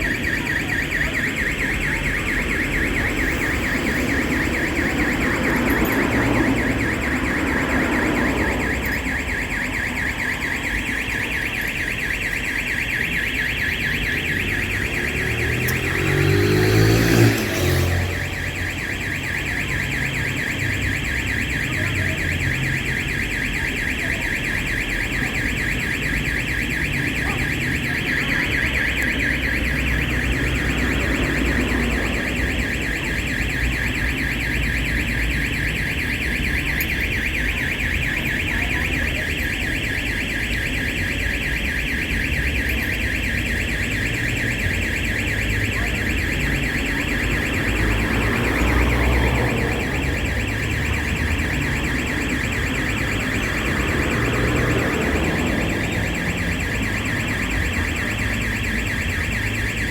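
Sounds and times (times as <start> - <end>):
electronic alarm pulsing high tone: 0.0 - 59.9.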